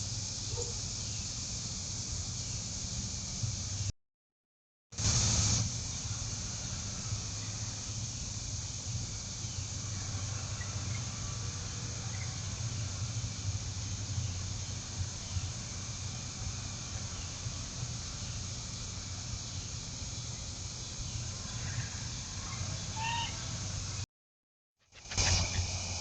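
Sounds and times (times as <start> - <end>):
high hiss: 0.0 - 3.9, 5.0 - 24.0, 25.0 - 26.0.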